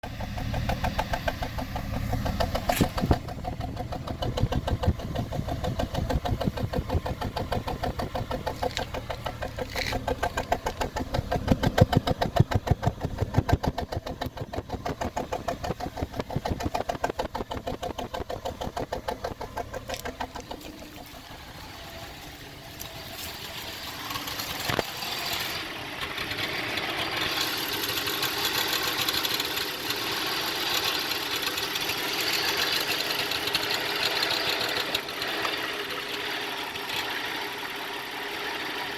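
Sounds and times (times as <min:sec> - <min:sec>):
car engine idling roughly: 0:00.0 - 0:38.9.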